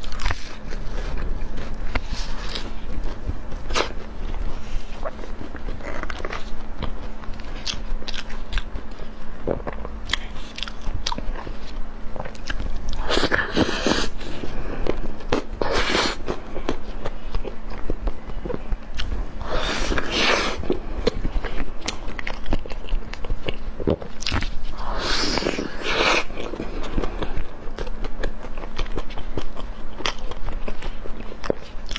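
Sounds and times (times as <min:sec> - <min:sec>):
biting and chewing cake: 0:00.0 - 0:31.9.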